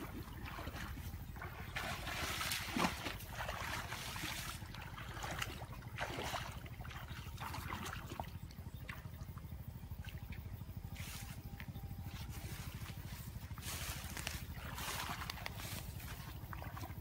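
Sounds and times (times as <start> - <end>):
steady low rumble: 0.0 - 17.0
water splashing and sloshing: 0.0 - 17.0.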